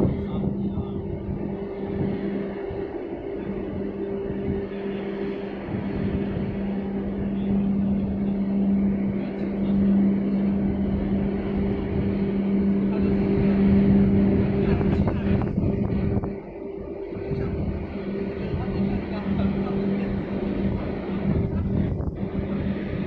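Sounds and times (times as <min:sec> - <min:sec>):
rushing noise: 0:00.0 - 0:23.0
ship machinery hum: 0:00.0 - 0:23.0.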